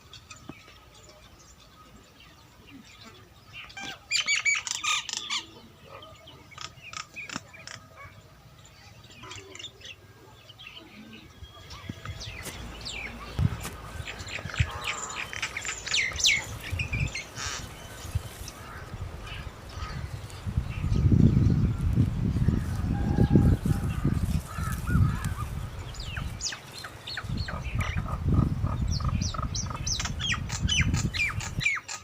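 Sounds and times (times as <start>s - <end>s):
bird calling: 0.0s - 20.9s, 22.6s - 32.0s.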